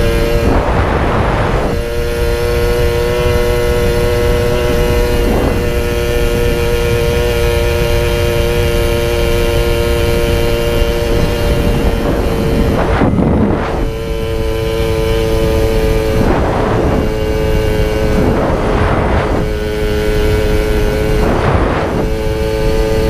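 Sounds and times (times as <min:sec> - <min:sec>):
moped engine droning: 0:00.0 - 0:23.0
wind on microphone: 0:00.0 - 0:23.0.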